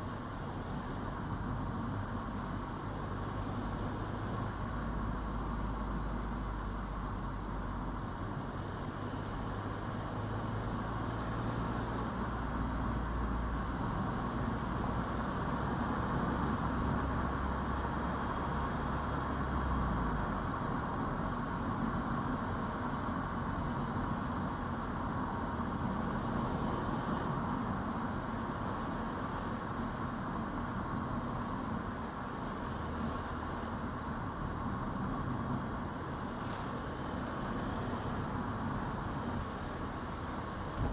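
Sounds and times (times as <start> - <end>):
car tyre and engine noise: 0.0 - 40.9.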